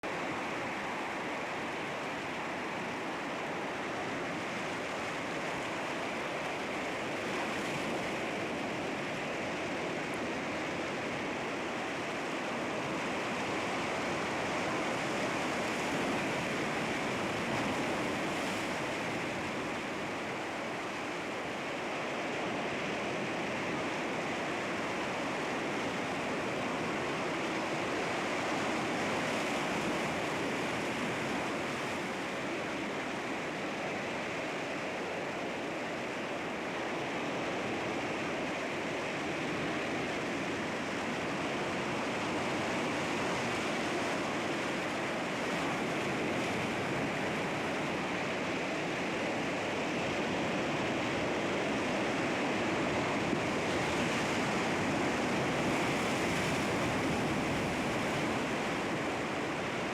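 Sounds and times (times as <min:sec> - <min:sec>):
sea waves washing against rocks: 0:00.1 - 0:59.9.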